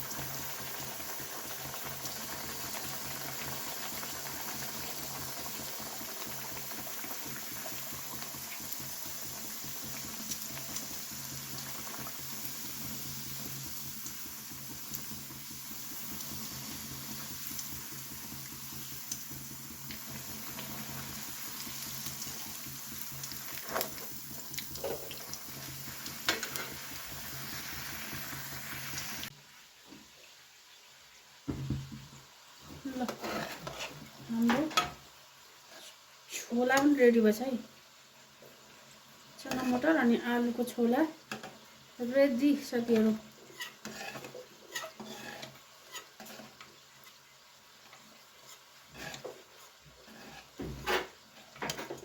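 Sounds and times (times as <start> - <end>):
food bubbling and frying: 0.0 - 52.0.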